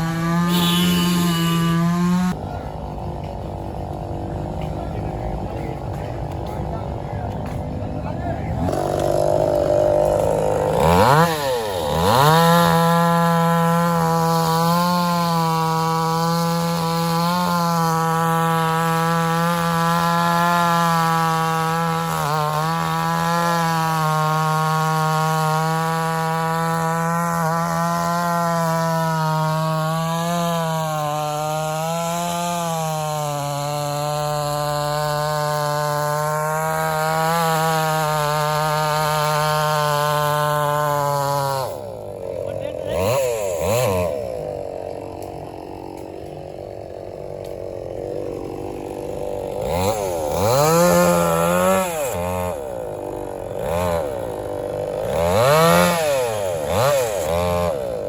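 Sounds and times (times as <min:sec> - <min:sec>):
chainsaw cutting wood: 0:00.0 - 0:02.4, 0:03.1 - 0:58.0.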